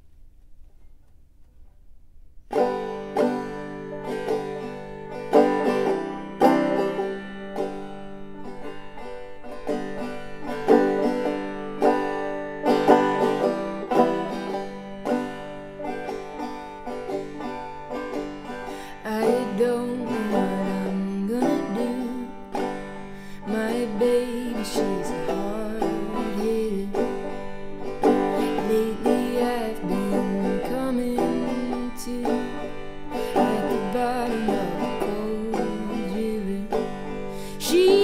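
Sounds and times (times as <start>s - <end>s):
solo banjo playing: 2.5s - 38.0s.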